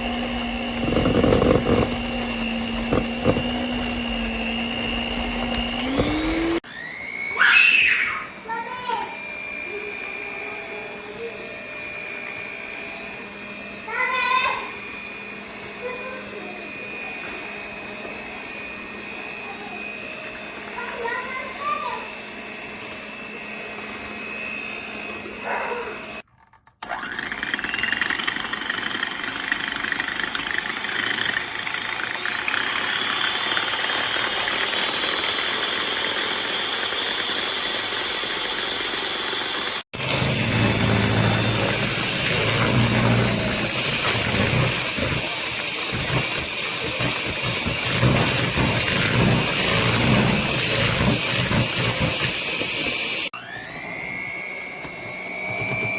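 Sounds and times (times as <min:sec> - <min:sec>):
electric hand mixer whirring: 0:00.0 - 0:55.9.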